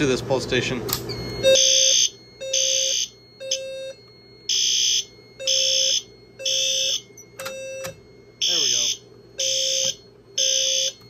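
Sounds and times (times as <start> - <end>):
alarm speaker tone: 1.1 - 11.0
fire alarm horn blasts: 1.1 - 11.0.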